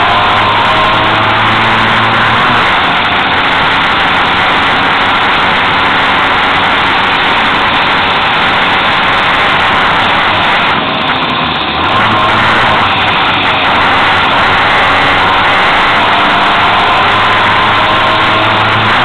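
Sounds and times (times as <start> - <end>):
car engine running hard: 0.0 - 19.0
road and wind noise: 0.0 - 19.0.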